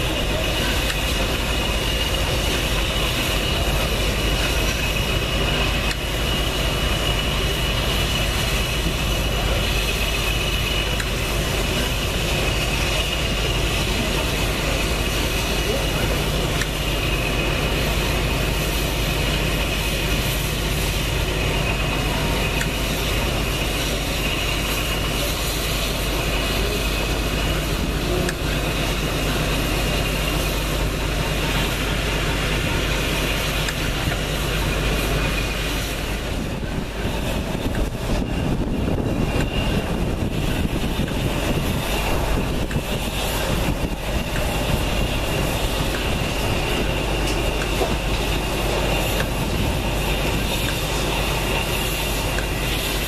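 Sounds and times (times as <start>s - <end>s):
diesel locomotive engine idling: 0.0s - 53.0s
thin high whine: 0.0s - 53.0s.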